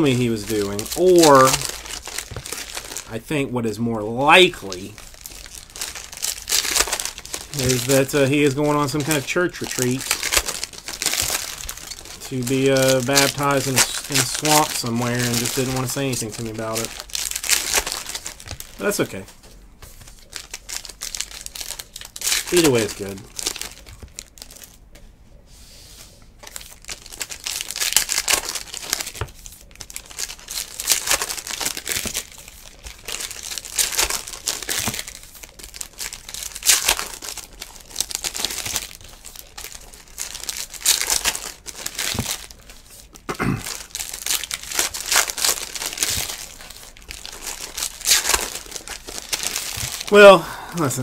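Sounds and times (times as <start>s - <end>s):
foil wrappers tearing and crinkling: 0.0s - 3.2s, 4.1s - 19.3s, 20.0s - 24.8s, 26.4s - 51.0s.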